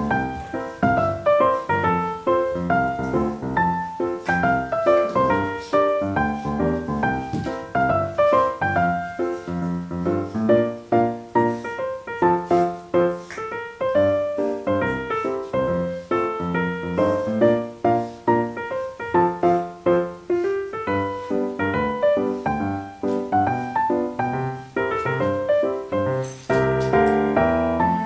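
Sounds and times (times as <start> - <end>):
lively piano music: 0.0 - 28.0.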